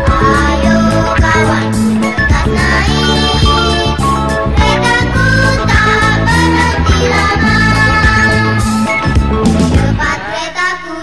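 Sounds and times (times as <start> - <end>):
loud music with steady beat: 0.0 - 10.3.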